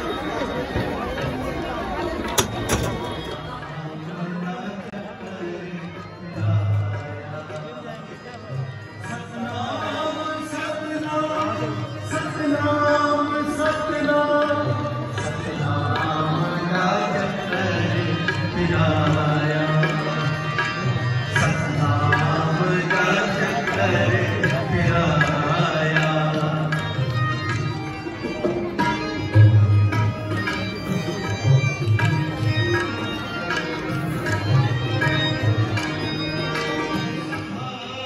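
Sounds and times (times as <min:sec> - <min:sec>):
tabla drumming: 0:00.0 - 0:38.0.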